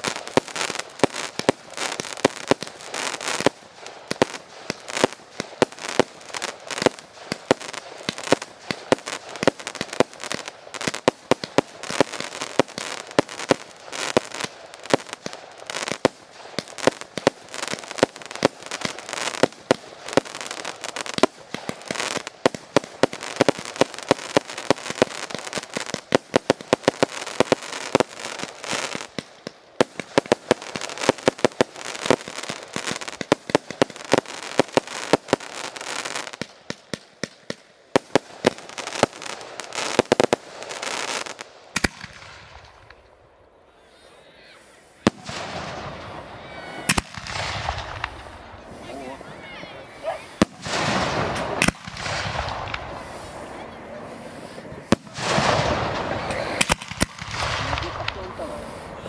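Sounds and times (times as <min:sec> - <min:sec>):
firework bangs and crackles: 0:00.0 - 0:43.9, 0:44.6 - 0:59.0.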